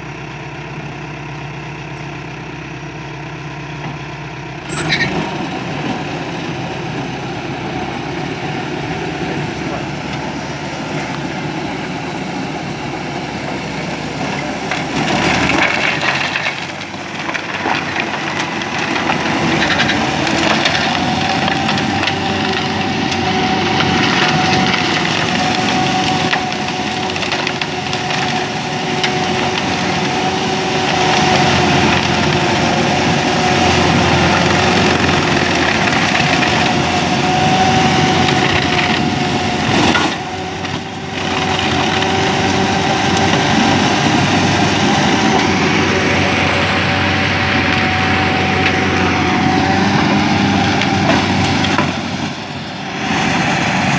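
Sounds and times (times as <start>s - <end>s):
tractor diesel engine running: 0.0s - 53.9s
flail mulcher shredding grass: 4.7s - 53.9s.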